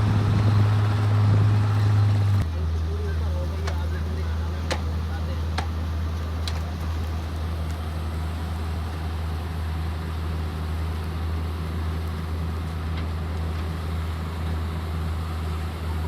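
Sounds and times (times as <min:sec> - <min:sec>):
harvester engine droning: 0:00.0 - 0:16.0.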